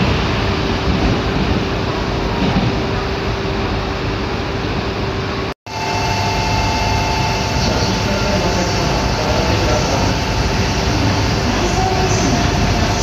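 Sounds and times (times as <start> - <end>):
platform hum: 0.0 - 13.0
train running with high whine: 0.0 - 13.0.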